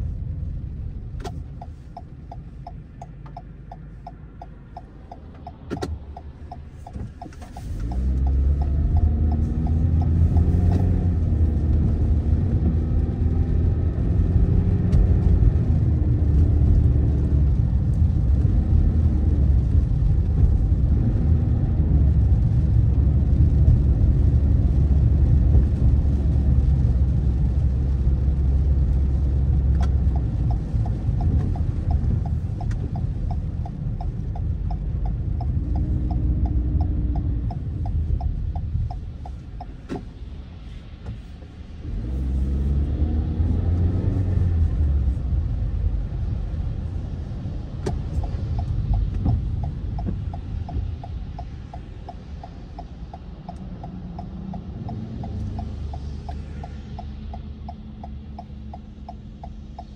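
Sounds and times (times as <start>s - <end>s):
car engine and tyres rumbling: 0.0s - 59.9s
turn signal ticking: 0.1s - 59.9s.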